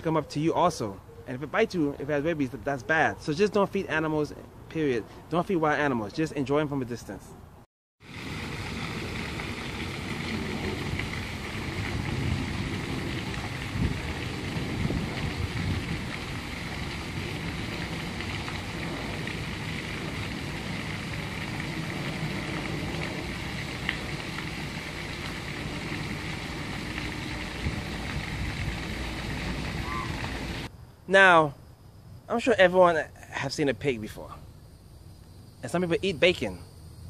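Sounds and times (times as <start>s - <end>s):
outdoor hiss and rumble: 0.0s - 37.0s.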